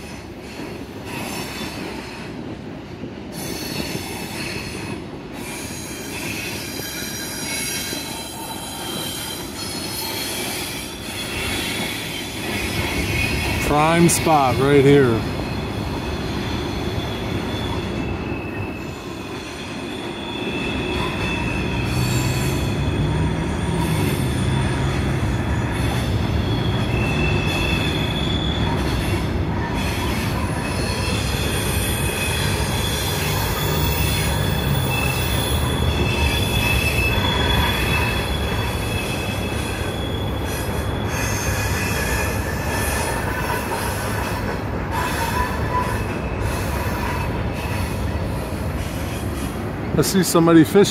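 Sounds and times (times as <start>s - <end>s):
train wheels rumbling on rail: 0.0s - 50.9s
high wheel squeal: 3.4s - 49.6s.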